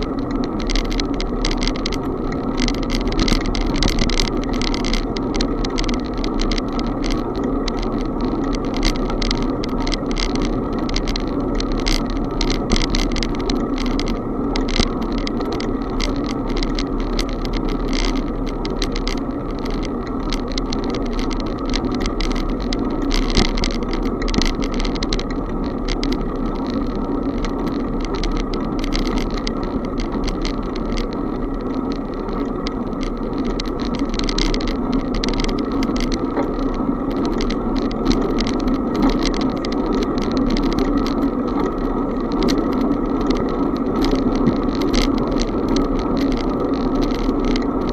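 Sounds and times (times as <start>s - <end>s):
bicycle rattles and clicks: 0.0s - 47.9s
bicycle tyres on road: 0.0s - 47.9s.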